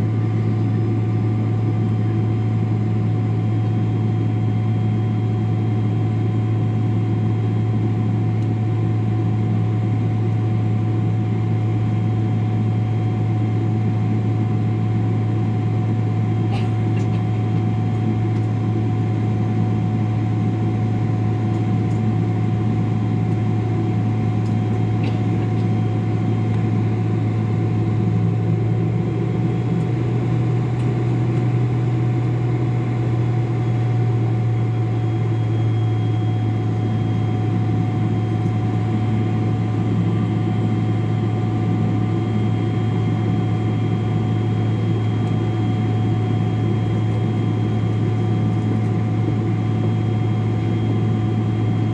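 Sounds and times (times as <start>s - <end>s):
airliner cabin engine drone: 0.0s - 51.9s.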